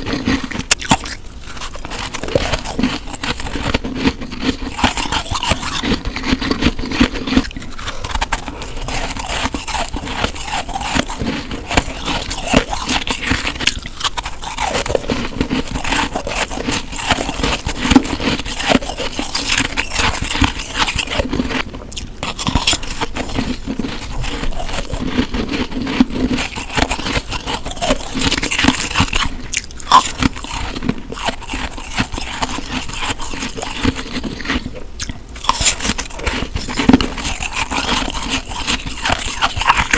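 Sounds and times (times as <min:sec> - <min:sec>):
chewing crunchy snow: 0:00.0 - 0:39.9.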